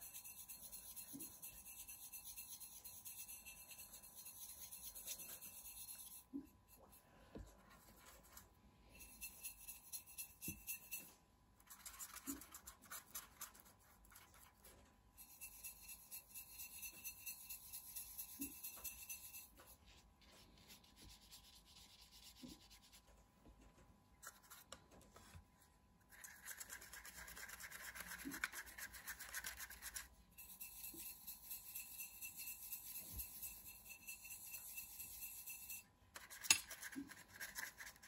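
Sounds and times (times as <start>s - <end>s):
paintbrush rubbing on ceramic plate: 0.0s - 23.3s, 24.2s - 38.0s.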